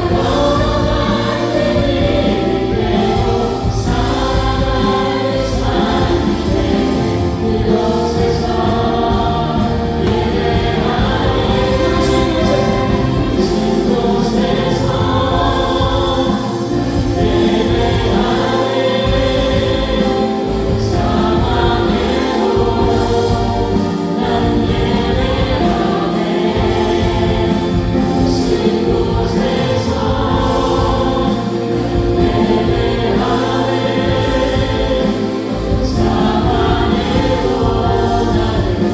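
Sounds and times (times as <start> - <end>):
band playing keyboards bass drums: 0.0 - 38.9
voices singing together: 0.0 - 38.9.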